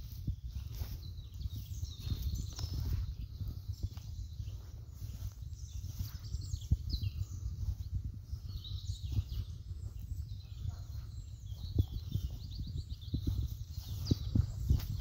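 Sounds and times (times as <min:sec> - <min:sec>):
footsteps in grass: 0:00.0 - 0:15.0
high bird chirps: 0:00.0 - 0:15.0
wind rumble on microphone: 0:00.0 - 0:15.0.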